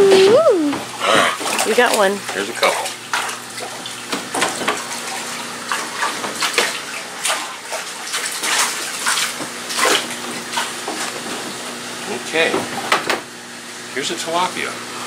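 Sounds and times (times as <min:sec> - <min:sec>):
water splashing and sloshing: 0:00.0 - 0:13.4
tank filter humming: 0:00.0 - 0:15.0.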